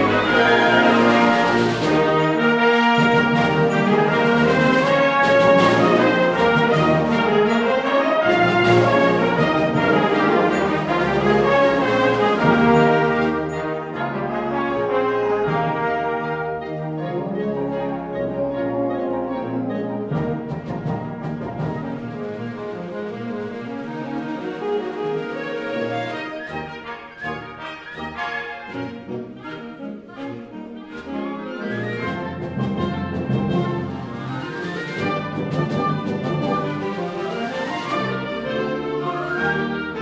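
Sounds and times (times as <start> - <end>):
concert wind band playing: 0.0 - 40.0.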